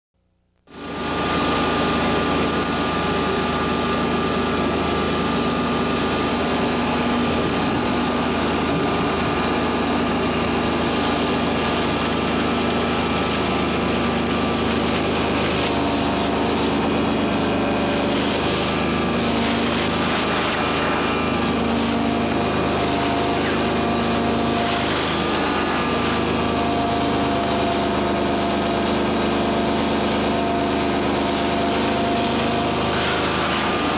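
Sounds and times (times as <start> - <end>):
vacuum excavator drone: 0.2 - 33.9.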